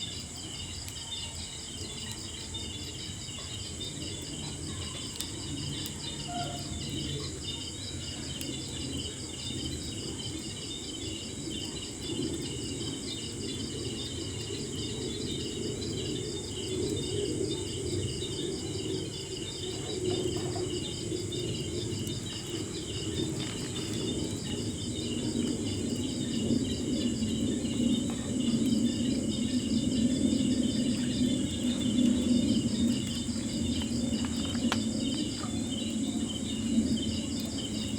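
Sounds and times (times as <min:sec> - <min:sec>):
insects chirping: 0:00.0 - 0:37.9
campfire crackling: 0:06.8 - 0:37.9.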